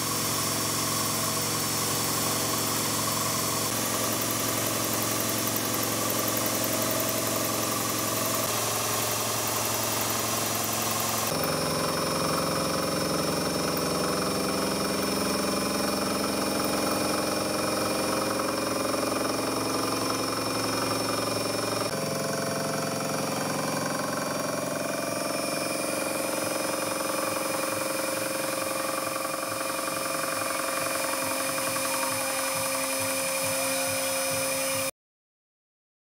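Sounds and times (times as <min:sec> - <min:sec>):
milling machine cutting metal: 0:00.0 - 0:34.9.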